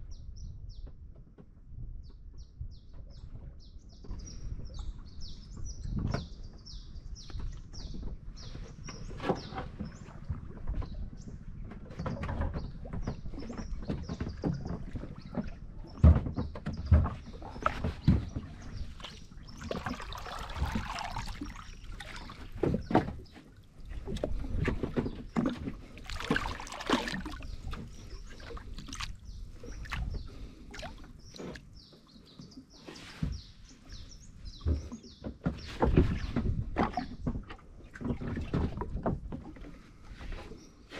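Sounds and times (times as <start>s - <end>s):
water sloshing and splashing: 7.3s - 40.9s.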